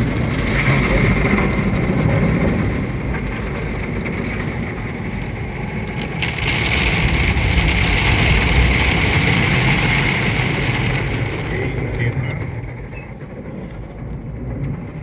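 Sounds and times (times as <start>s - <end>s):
car wash scrubbing and spraying: 0.0s - 15.0s.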